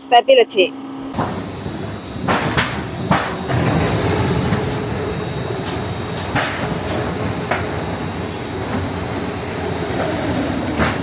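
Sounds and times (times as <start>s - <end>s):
roll forming machine rumble: 1.1s - 11.0s.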